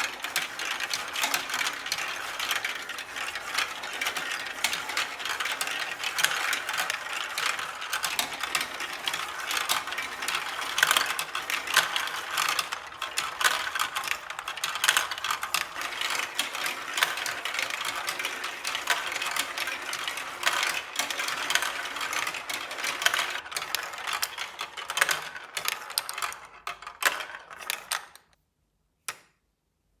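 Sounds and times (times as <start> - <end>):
marbles rattling through plastic run: 0.0 - 28.3.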